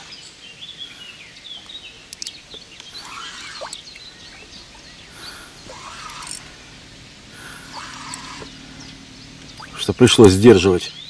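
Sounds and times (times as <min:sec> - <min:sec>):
birds chirping calls: 0:00.0 - 0:11.0
birds twittering: 0:00.0 - 0:11.0.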